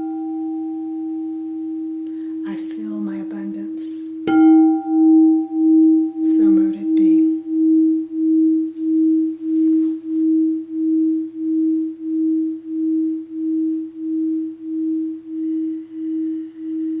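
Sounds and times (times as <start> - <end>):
singing bowl ringing: 0.0 - 3.1, 3.9 - 17.0.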